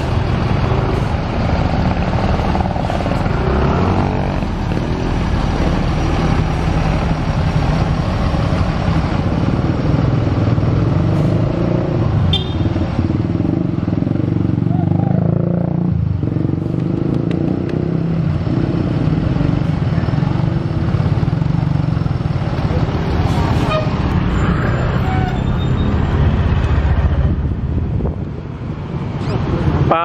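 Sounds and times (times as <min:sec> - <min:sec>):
bus diesel engine under load: 0:00.0 - 0:30.0
motorcycles passing: 0:00.0 - 0:30.0.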